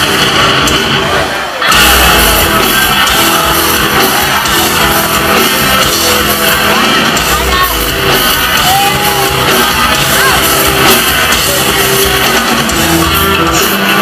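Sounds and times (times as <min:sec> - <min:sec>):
distorted electric guitars: 0:00.0 - 0:14.0
heavy bass: 0:00.0 - 0:14.0
rock band playing live: 0:00.0 - 0:14.0.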